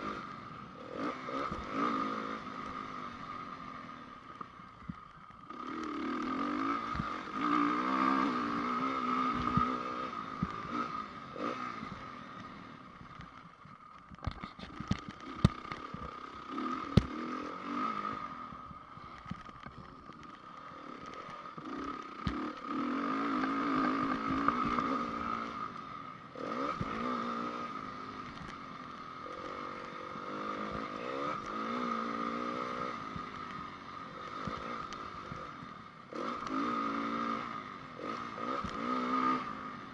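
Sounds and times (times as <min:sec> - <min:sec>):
motocross engine revving: 0:00.0 - 0:04.0, 0:05.5 - 0:12.5, 0:14.3 - 0:18.6, 0:20.1 - 0:39.9.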